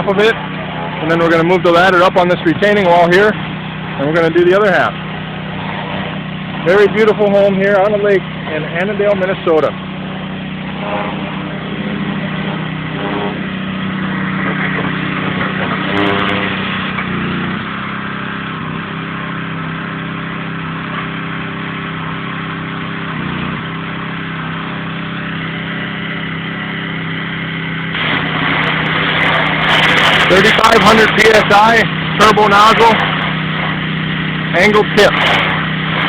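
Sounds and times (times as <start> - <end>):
pressure washer engine drone: 0.0 - 36.0
water spraying hiss: 2.0 - 36.0.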